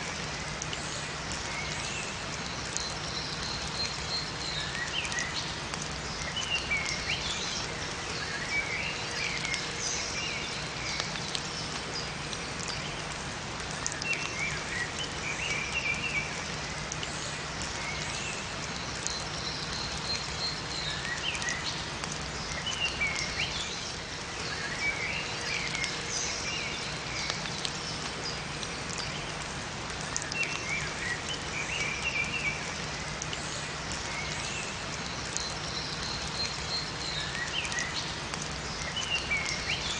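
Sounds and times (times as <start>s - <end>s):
steady rain falling: 0.0s - 39.9s
water drips: 0.0s - 39.9s
songbirds twittering: 0.7s - 39.9s.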